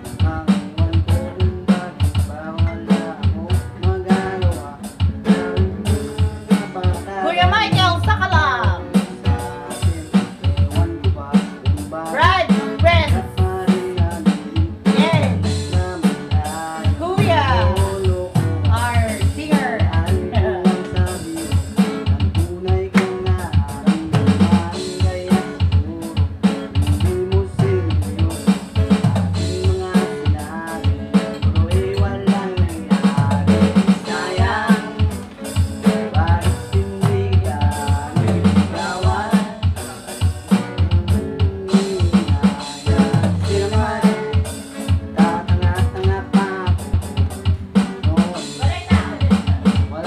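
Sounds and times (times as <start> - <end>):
bass: 0.0 - 50.0
drum kit beat: 0.0 - 50.0
person singing: 0.0 - 50.0.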